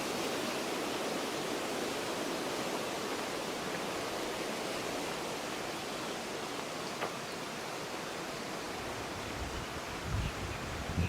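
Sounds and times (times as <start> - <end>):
river rushing: 0.0 - 10.9.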